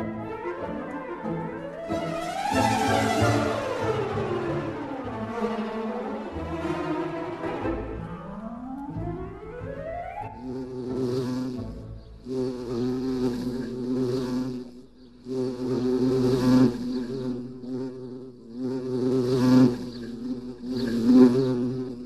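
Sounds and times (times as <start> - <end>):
bee buzzing: 0.0 - 22.0.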